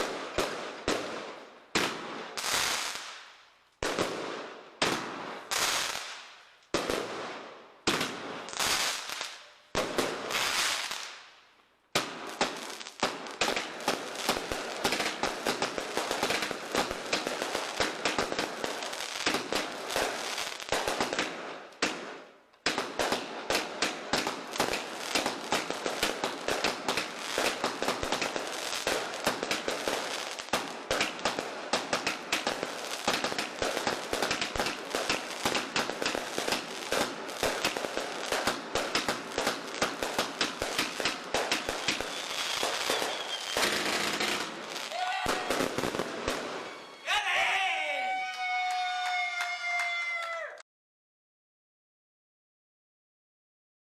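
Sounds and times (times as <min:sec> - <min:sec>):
rapid crackling firework pops: 0:00.0 - 0:11.2, 0:11.9 - 0:46.7
firework shots with crackle: 0:00.0 - 0:11.3, 0:11.9 - 0:46.9.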